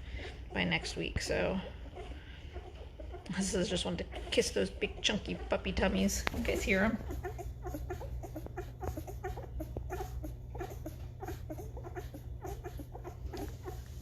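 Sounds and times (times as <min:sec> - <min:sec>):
puppies squeaking and whimpering: 0:00.0 - 0:14.0
steady low hum: 0:00.0 - 0:14.0.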